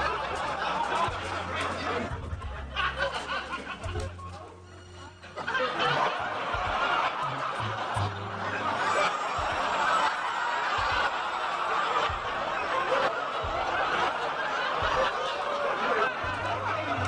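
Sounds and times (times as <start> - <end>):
audience laughing: 0.0 - 17.0.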